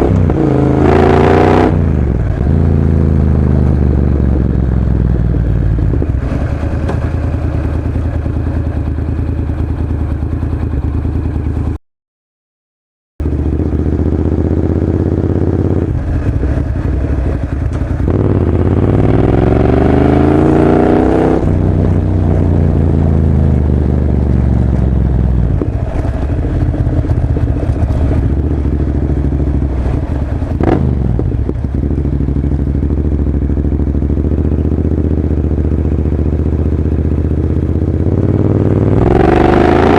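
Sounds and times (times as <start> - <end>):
motorcycle engine idling and revving: 0.0 - 11.8, 13.2 - 39.9.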